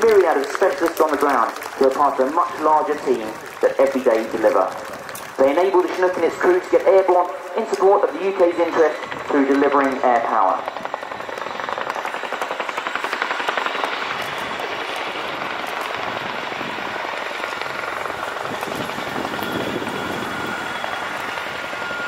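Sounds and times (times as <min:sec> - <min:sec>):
helicopter rotors beating: 0:00.0 - 0:22.0
steady whine: 0:00.0 - 0:22.0.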